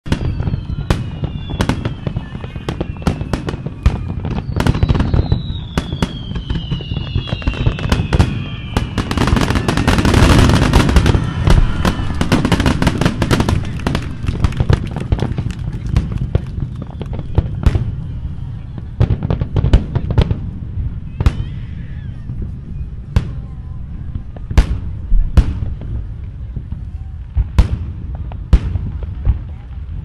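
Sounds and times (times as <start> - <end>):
fireworks bursting with crackling: 0.0 - 30.0
fireworks whistling: 0.1 - 25.9.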